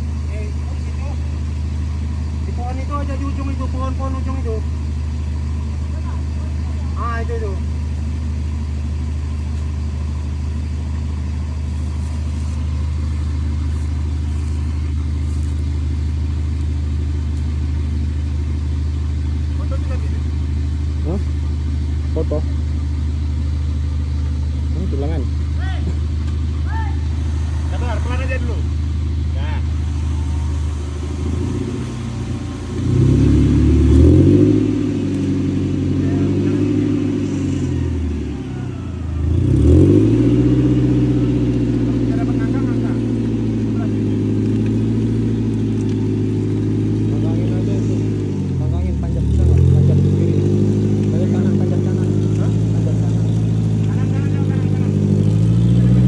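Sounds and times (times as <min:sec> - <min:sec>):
vehicle engine running at low revs: 0:00.0 - 0:56.0.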